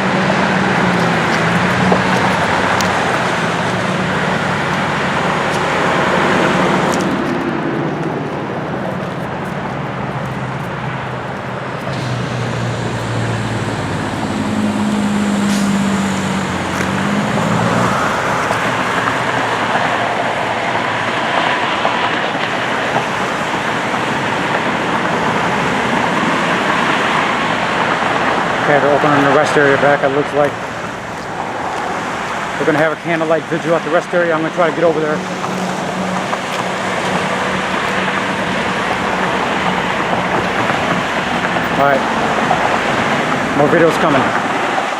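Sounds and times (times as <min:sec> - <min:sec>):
road traffic passing: 0:00.0 - 0:44.9
vehicle engine tone: 0:00.0 - 0:44.9.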